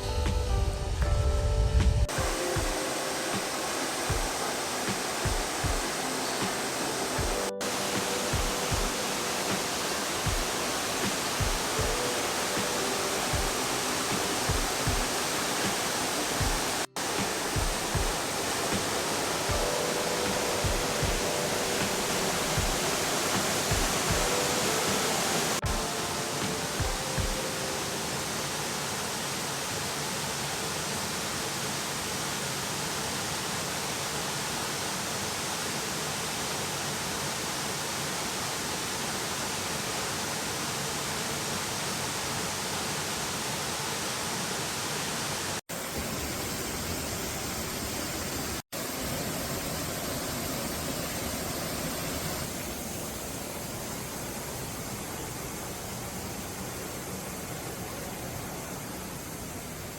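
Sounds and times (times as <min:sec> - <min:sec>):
waterfall rushing: 0:02.0 - 0:59.9.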